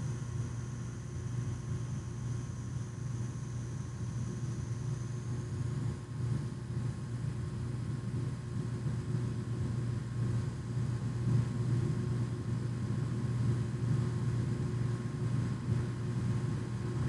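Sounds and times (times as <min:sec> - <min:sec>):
faint steady whine: 0:00.0 - 0:17.0
low hum and rumble: 0:00.0 - 0:17.0.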